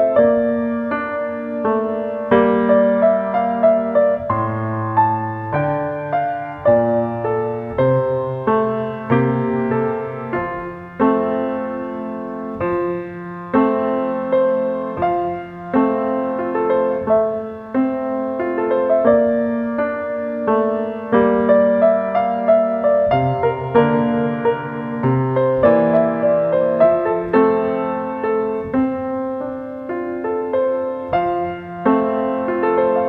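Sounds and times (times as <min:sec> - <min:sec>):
solo grand piano melody: 0:00.0 - 0:33.0.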